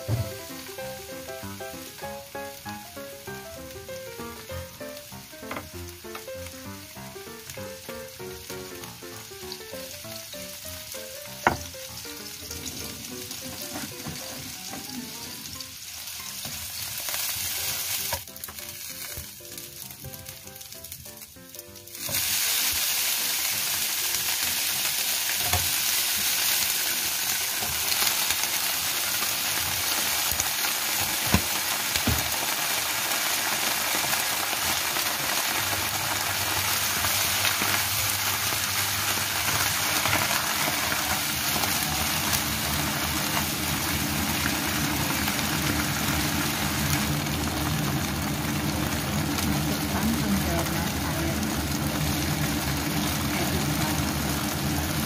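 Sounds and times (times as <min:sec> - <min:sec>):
food sizzling in a wok: 0:00.0 - 0:55.0.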